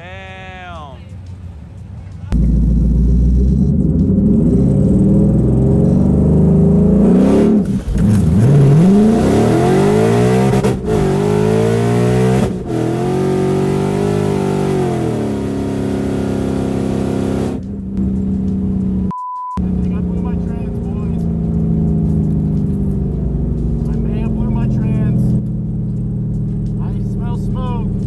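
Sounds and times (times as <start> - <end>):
car engine at full throttle: 1.4 - 28.0.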